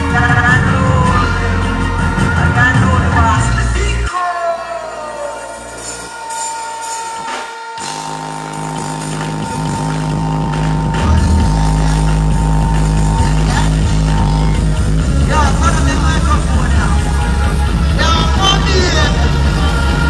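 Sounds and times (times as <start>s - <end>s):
bass notes: 0.0s - 4.1s, 7.2s - 20.0s
live band music: 0.0s - 20.0s.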